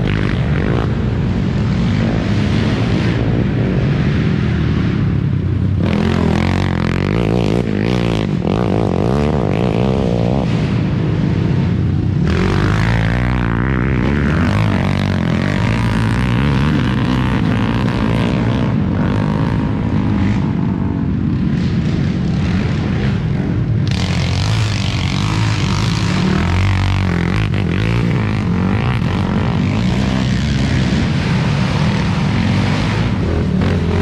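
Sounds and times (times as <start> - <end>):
quad engine running hard: 0.0 - 34.0.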